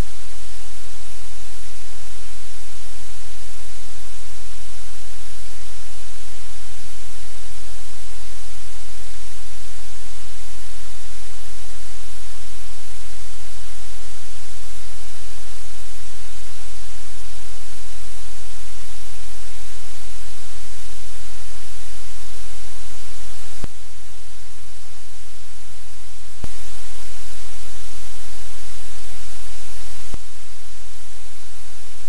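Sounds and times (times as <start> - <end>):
static hiss: 0.0 - 32.0.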